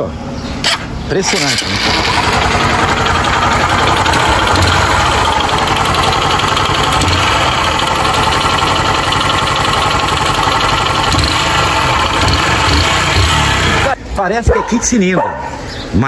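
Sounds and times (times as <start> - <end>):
motorcycle engine clattering: 0.6 - 14.0.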